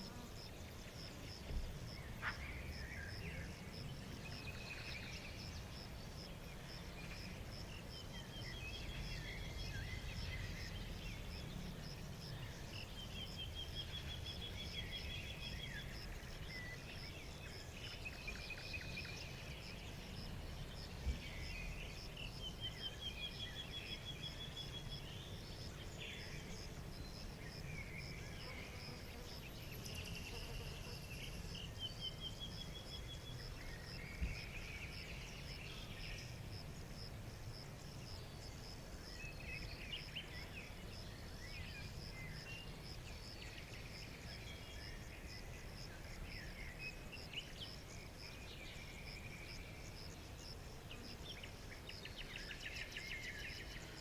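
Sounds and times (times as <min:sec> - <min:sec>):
songbirds singing and trilling: 0:00.1 - 0:54.0.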